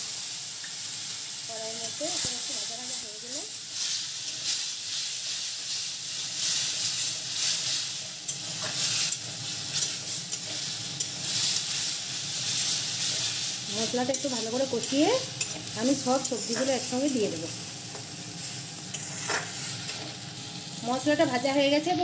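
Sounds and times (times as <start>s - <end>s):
spice paste sizzling in hot oil: 0.0s - 22.0s.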